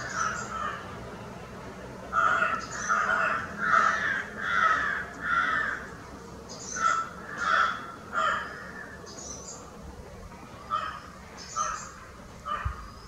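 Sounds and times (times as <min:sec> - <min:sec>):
birds calling harshly: 0:00.0 - 0:09.8, 0:10.4 - 0:13.0.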